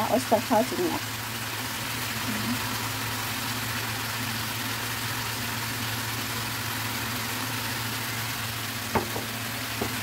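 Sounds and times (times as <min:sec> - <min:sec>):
stir-fry sizzling in frying pan: 0:00.0 - 0:10.0.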